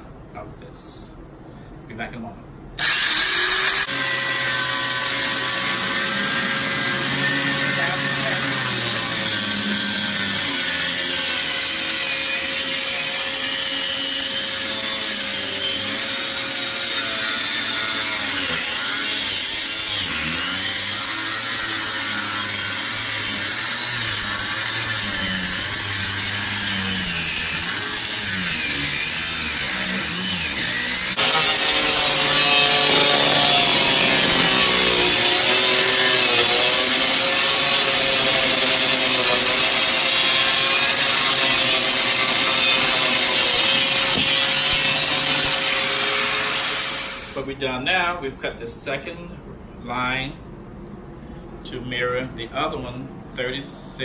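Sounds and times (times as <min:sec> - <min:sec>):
power saw cutting through wall: 0:02.8 - 0:47.5.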